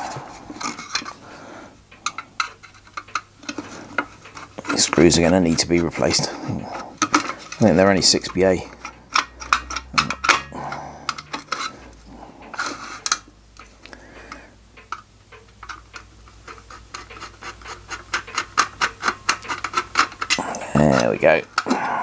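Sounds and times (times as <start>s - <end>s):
small metal clinks and scrapes: 0.0s - 1.3s, 2.0s - 13.3s, 15.6s - 21.9s.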